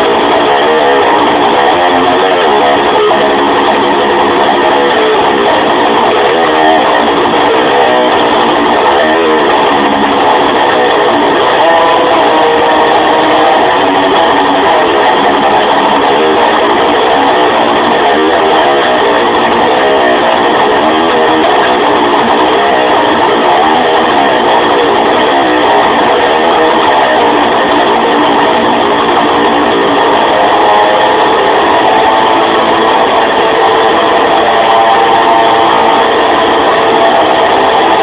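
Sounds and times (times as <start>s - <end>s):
electric guitar playing: 0.0s - 38.0s.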